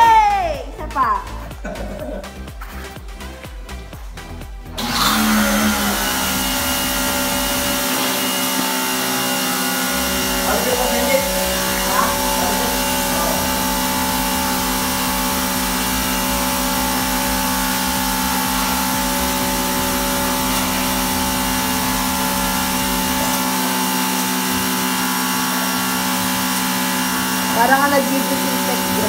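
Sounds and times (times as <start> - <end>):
pressure washer motor hum: 0.9 - 29.0
water spraying: 4.2 - 29.0.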